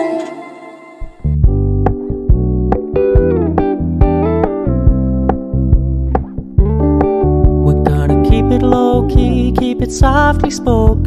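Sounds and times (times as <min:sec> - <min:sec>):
instrumental pop music: 0:00.0 - 0:11.0.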